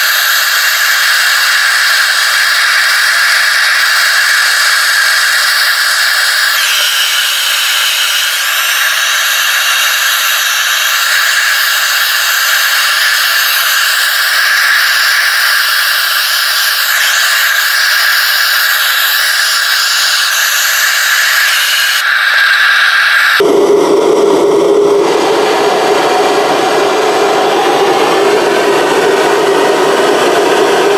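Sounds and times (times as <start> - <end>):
gas torch flame hissing: 0.0 - 25.2.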